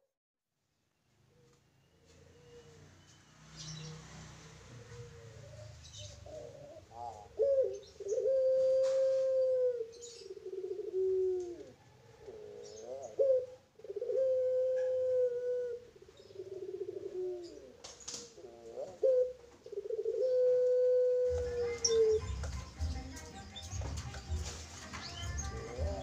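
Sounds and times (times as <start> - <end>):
dove cooing: 4.6 - 26.0.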